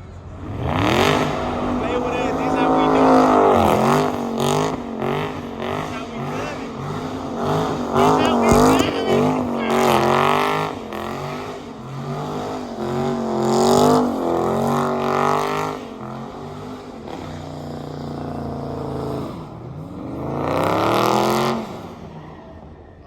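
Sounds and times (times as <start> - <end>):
car engine revving: 0.0 - 22.8.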